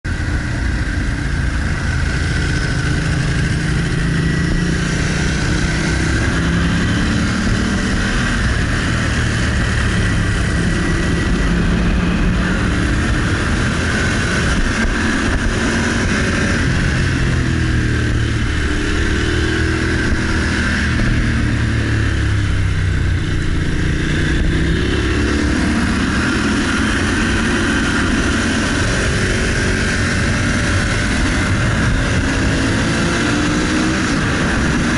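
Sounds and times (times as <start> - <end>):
wind noise: 0.0 - 34.9
motorcycle engine revving: 0.1 - 34.9.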